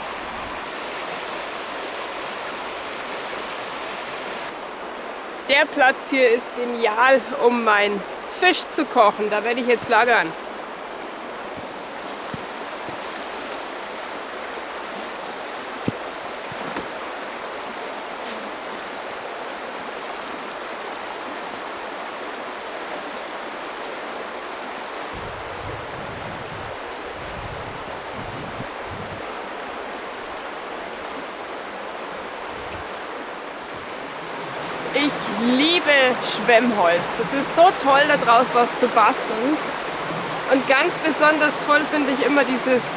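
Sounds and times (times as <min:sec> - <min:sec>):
river water rushing: 0:00.0 - 0:25.2, 0:29.2 - 0:42.9.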